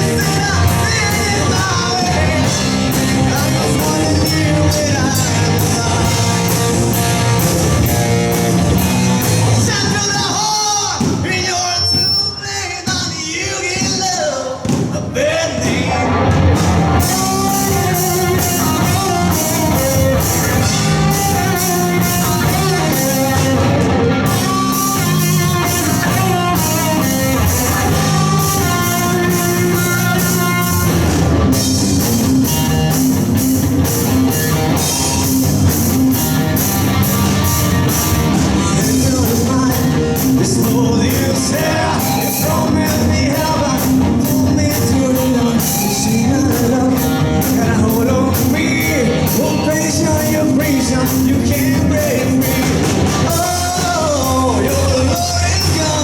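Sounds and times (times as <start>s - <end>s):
live rock band playing: 0.0s - 11.4s, 15.9s - 56.0s
person singing: 0.0s - 35.8s, 37.1s - 56.0s.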